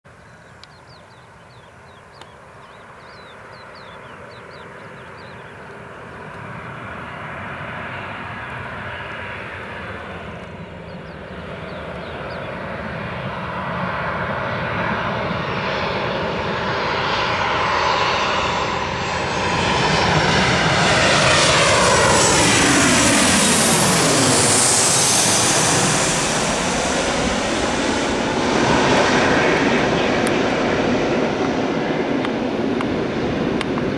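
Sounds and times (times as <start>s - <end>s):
jet engines whining: 0.2s - 33.9s.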